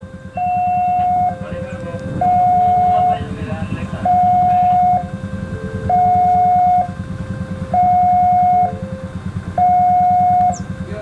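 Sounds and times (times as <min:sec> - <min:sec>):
low pulsing rumble: 0:00.0 - 0:11.0
two-tone electronic alarm: 0:00.0 - 0:11.0.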